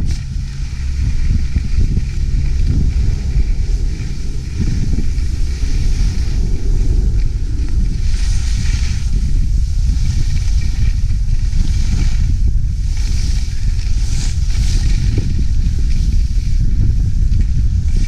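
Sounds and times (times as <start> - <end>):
skis hissing on snow: 0.0 - 18.0
wind buffeting microphone: 0.0 - 18.0.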